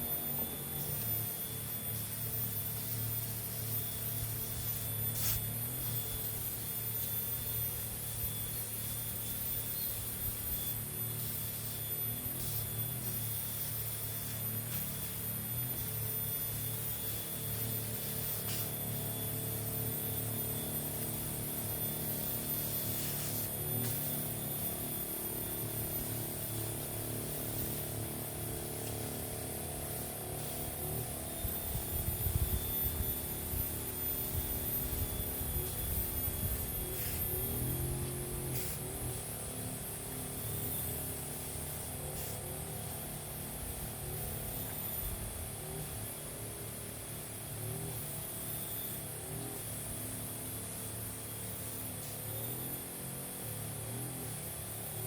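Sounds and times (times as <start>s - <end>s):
motor hum: 0.0s - 55.0s
spray hissing: 0.2s - 45.3s.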